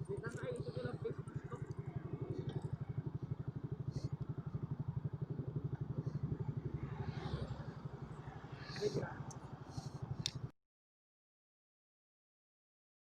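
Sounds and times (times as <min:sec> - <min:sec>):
motorcycle engine puttering: 0:00.0 - 0:10.5.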